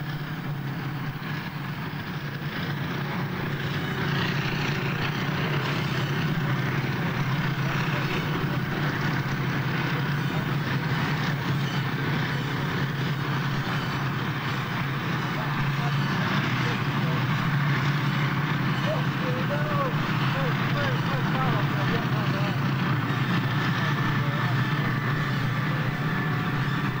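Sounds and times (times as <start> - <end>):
broad rushing noise: 0.0 - 27.0
heavy vehicle engine hum: 0.0 - 27.0.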